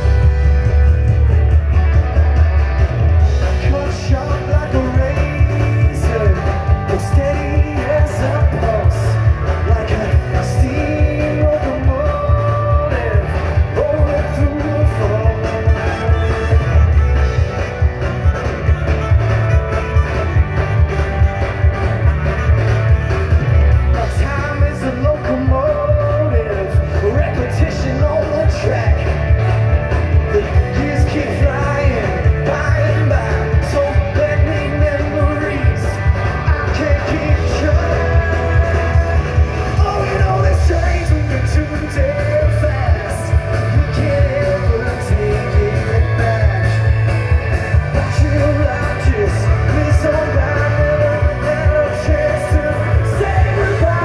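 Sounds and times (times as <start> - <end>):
live rock band playing: 0.0 - 54.0
person singing: 3.2 - 17.5, 23.9 - 29.2, 30.2 - 54.0.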